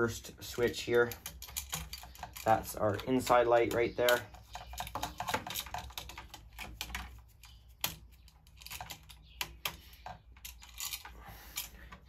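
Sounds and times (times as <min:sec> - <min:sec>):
screwdriver clicking on screws: 0:00.6 - 0:11.8.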